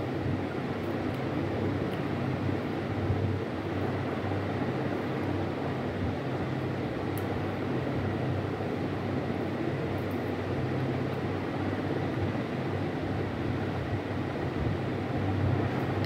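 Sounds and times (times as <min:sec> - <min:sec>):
fan humming and rushing air: 0:00.0 - 0:16.0.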